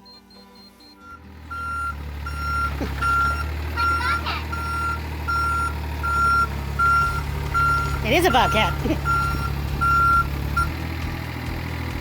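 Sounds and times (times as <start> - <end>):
travel alarm beeping: 0.0 - 10.8
diesel engine running: 0.0 - 12.0.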